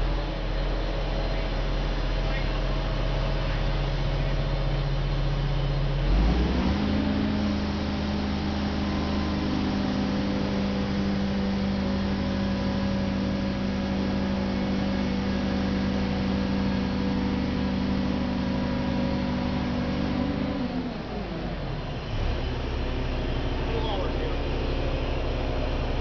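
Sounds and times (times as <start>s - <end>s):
large engine running: 0.0s - 26.0s.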